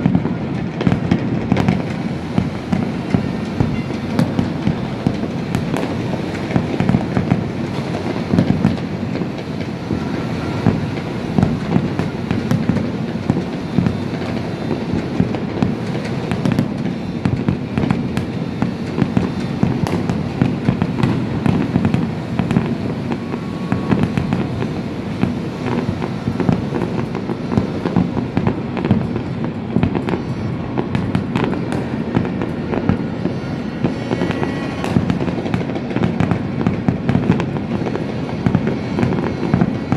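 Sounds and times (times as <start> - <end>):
fireworks cracking and banging: 0.0 - 39.9.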